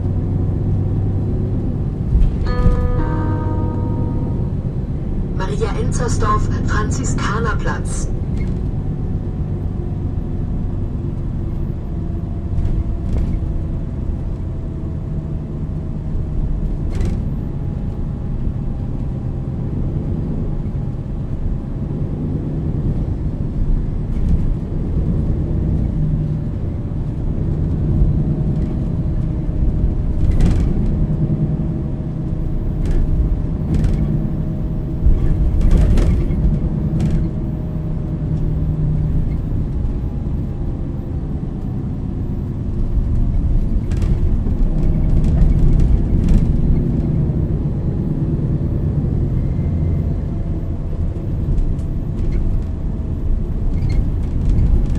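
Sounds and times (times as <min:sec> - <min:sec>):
bus diesel engine: 0:00.0 - 0:54.9
road rumble: 0:00.0 - 0:54.9.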